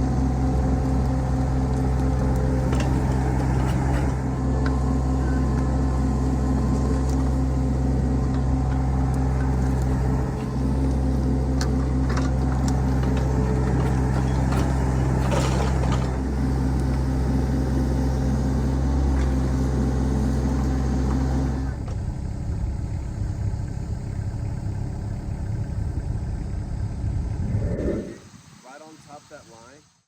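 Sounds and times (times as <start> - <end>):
digging machine engine running: 0.0 - 28.0.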